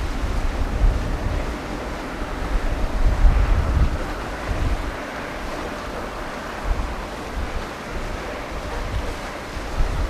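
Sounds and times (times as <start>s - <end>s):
sea surf breaking: 0.0s - 10.0s
wind buffeting microphone: 0.0s - 10.0s.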